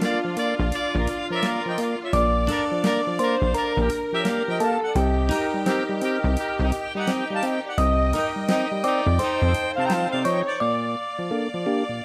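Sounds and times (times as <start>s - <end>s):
instrumental music with bass pulse: 0.0s - 12.0s.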